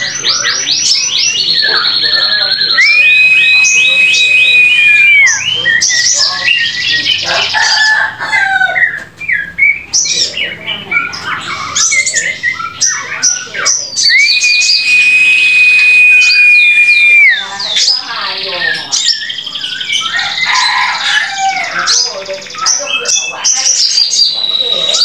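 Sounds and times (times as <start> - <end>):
bird singing: 0.0 - 25.0.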